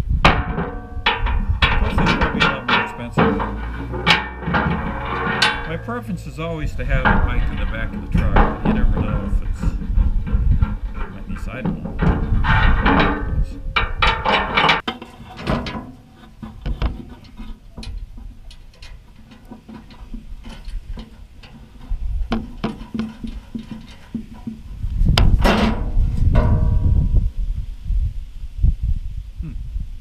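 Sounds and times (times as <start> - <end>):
handling rumble: 0.0 - 27.7
hand tools clattering: 0.3 - 27.0
metal rack parts clattering: 0.3 - 27.0.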